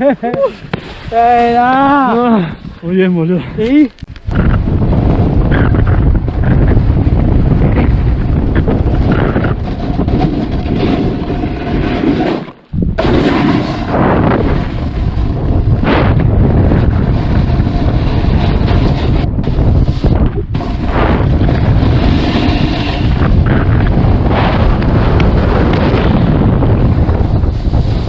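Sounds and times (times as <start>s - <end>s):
snowboard scraping over snow: 0.0s - 28.0s
wind buffeting microphone: 0.0s - 28.0s.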